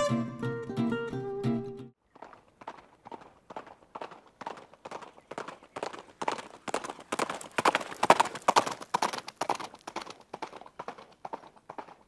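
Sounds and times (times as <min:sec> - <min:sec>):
horse hooves clip-clopping: 0:02.2 - 0:12.0.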